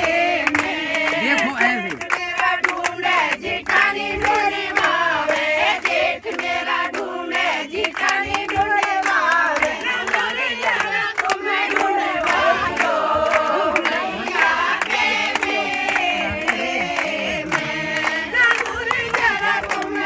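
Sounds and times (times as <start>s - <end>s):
group singing folk song: 0.0s - 20.0s
hands clapping in rhythm: 0.0s - 20.0s.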